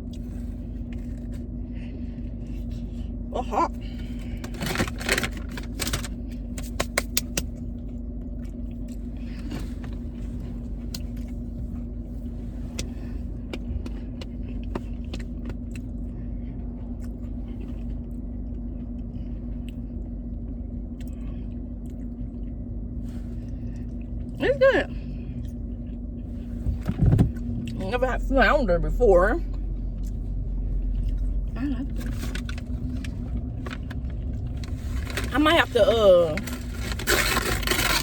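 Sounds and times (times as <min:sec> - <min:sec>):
car cabin hum and road rumble: 0:00.0 - 0:38.0.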